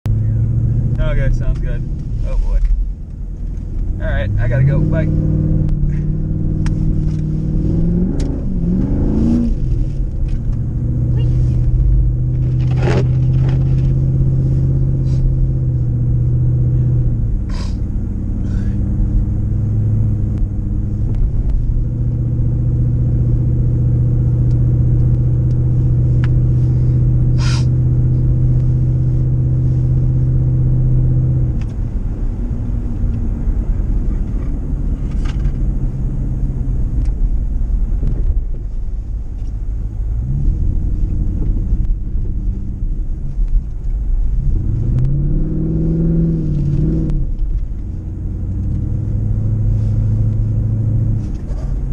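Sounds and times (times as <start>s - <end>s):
car engine running: 0.0s - 51.9s.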